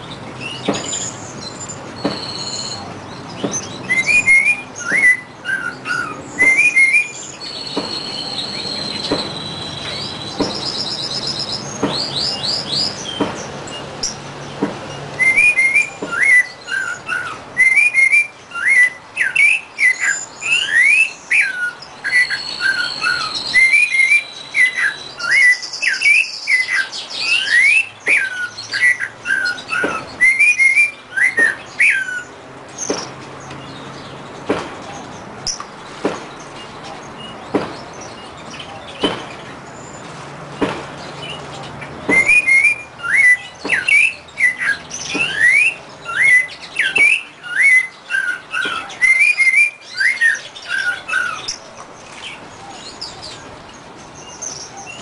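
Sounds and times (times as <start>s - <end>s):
songbird chirping: 0.0s - 55.0s.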